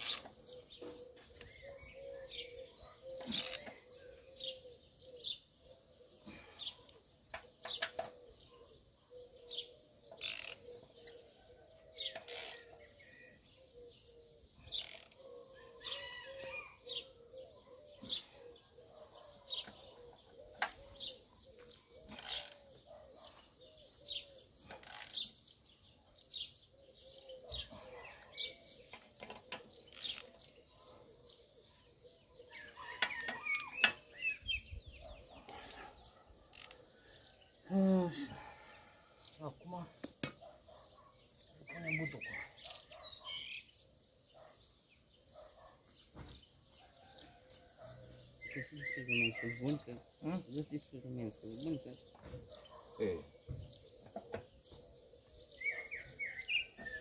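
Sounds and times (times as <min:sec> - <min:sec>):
pigeons cooing: 0:00.0 - 0:57.0
small birds chirping: 0:00.0 - 0:57.0.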